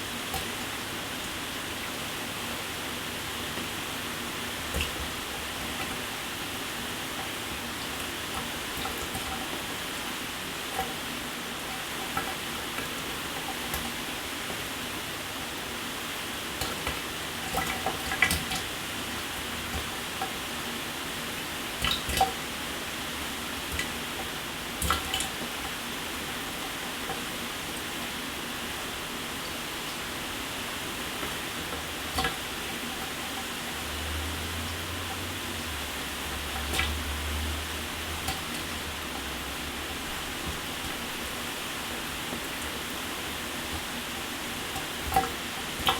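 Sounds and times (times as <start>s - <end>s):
water drips and splashes: 0.0s - 28.2s, 29.3s - 45.9s.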